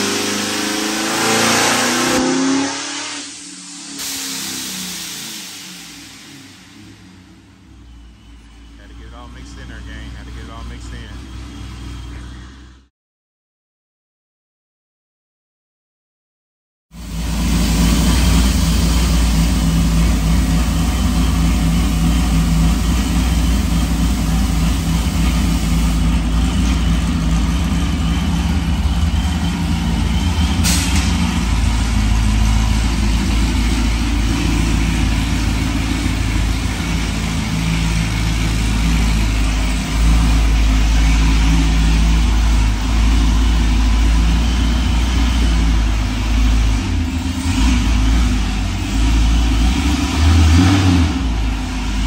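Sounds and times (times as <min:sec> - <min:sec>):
car engine idling: 0:03.3 - 0:12.9, 0:17.0 - 0:52.0.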